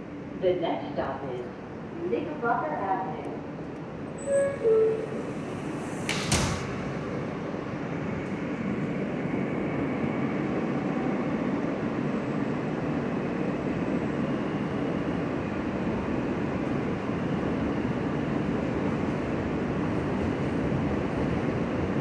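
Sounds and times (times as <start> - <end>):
subway train wheels and motors rumbling: 0.0 - 22.0.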